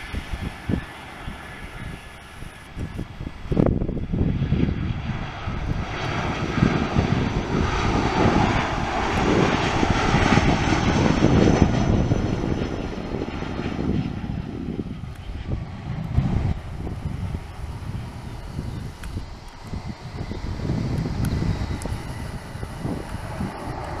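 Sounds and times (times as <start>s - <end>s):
jet airliner engines whining: 0.0s - 24.0s
wind buffeting microphone: 0.0s - 24.0s.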